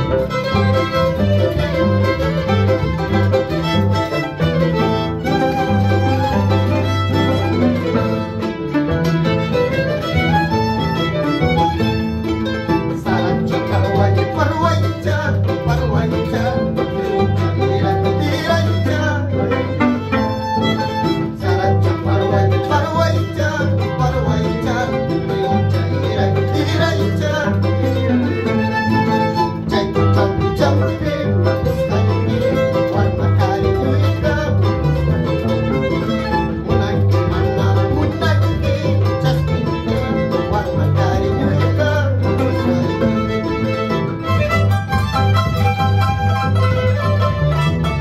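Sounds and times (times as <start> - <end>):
harp plucking bass line: 0.0 - 48.0
violin bowed melody: 0.0 - 48.0.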